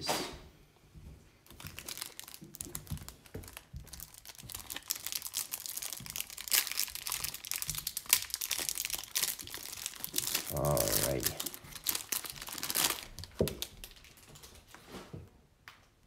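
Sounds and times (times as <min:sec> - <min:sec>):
plastic wrap crinkling and tearing: 0:01.4 - 0:14.8.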